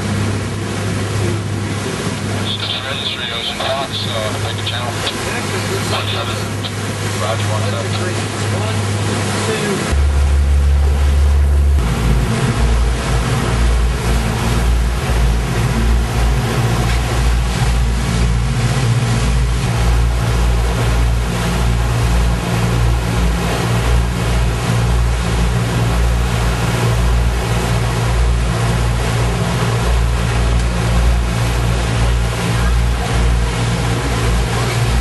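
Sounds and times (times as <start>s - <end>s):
boat engine droning: 0.0s - 35.0s
wind and water rushing: 0.0s - 35.0s.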